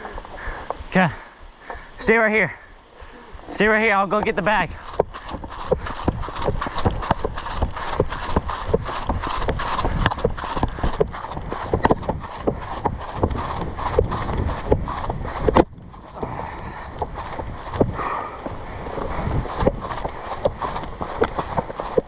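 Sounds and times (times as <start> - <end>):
footsteps crunching through dry leaves: 4.0 - 22.0.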